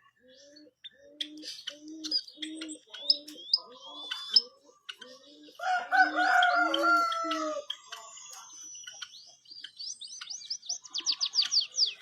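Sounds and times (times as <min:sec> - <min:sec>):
high rising bird chirps: 0:00.2 - 0:12.0.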